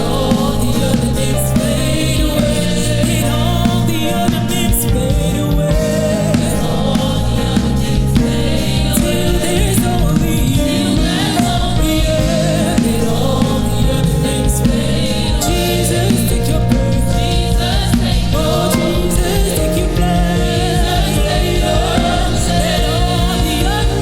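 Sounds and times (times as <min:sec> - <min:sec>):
gospel singing with accompaniment: 0:00.0 - 0:24.0.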